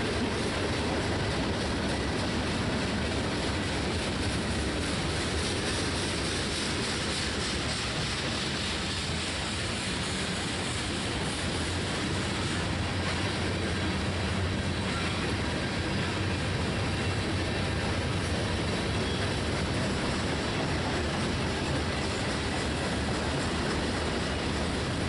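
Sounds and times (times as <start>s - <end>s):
steel wheels running on rails: 0.0s - 25.0s.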